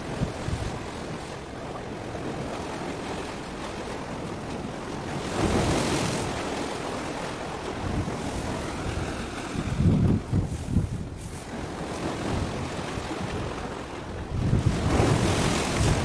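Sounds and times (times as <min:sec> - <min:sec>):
sea waves rushing: 0:00.0 - 0:16.0
wind noise on microphone: 0:00.0 - 0:16.0.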